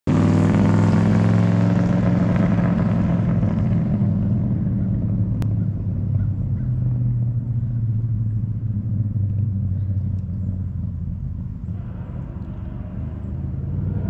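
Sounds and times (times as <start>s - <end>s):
car engine driving away: 0.1s - 14.0s.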